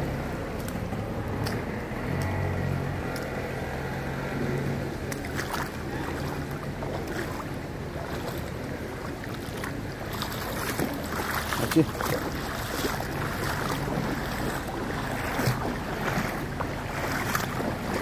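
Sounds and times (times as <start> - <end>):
floodwater sloshing: 0.0 - 18.0
low steady hum: 0.0 - 18.0.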